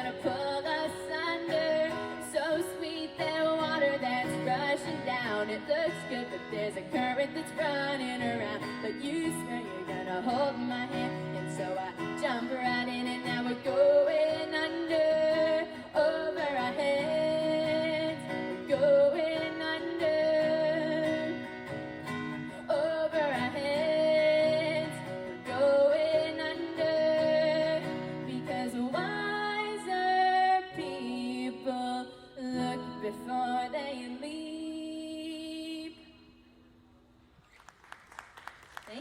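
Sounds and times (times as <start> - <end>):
woman singing: 0.0 - 36.5
acoustic guitar: 0.0 - 39.0.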